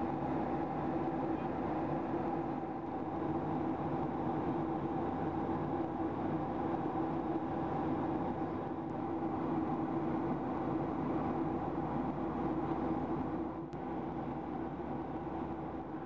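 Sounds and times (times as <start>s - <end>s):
airliner cabin airflow and engine drone: 0.0s - 16.0s
constant low hum: 0.0s - 16.0s.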